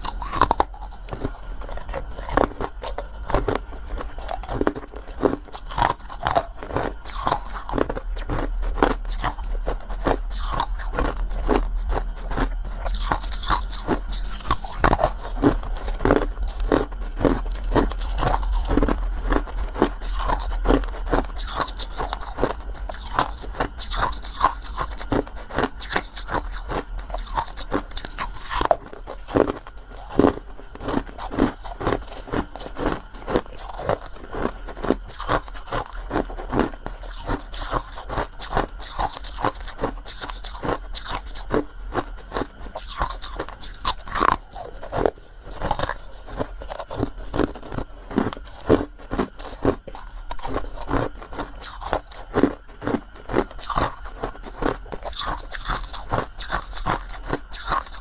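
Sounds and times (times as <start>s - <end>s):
chewing something crunchy: 0.0s - 58.0s.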